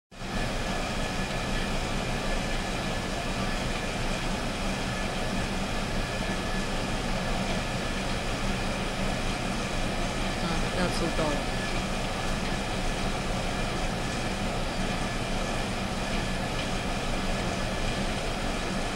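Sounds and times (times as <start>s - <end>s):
coffee roaster motor whirring: 0.2s - 18.9s.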